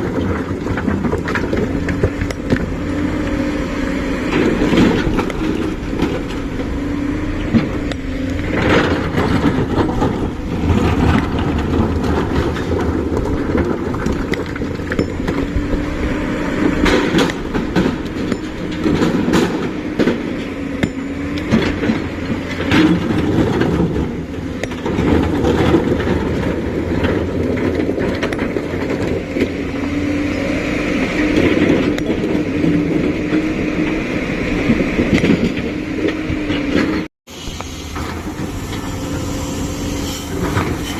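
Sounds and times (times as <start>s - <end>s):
diesel engine working hydraulics: 0.0s - 40.9s.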